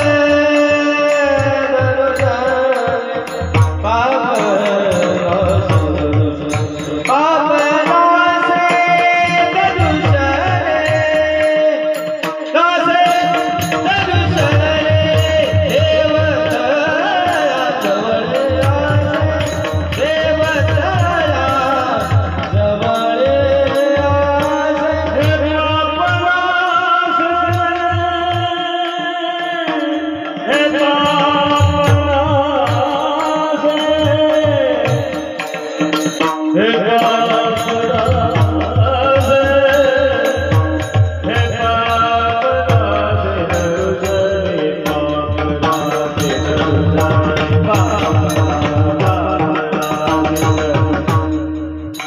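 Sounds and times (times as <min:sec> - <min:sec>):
person singing: 0:00.0 - 0:52.0.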